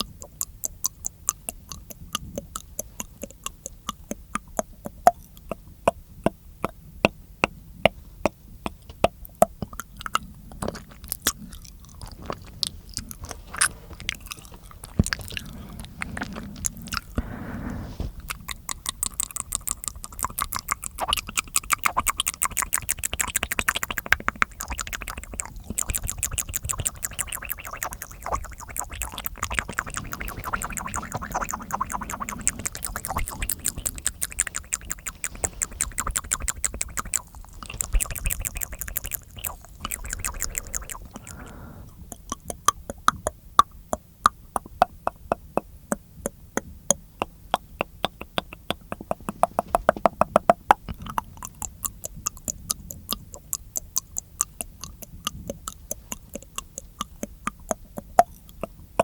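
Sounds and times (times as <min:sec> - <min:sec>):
tongue clicking and smacking: 0:00.0 - 0:59.0.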